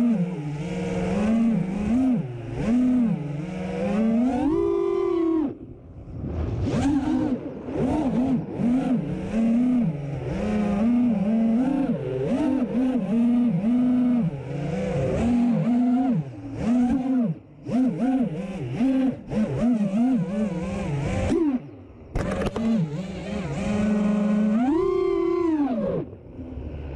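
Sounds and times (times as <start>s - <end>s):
quadcopter motors whining: 0.0s - 5.9s, 6.7s - 26.9s.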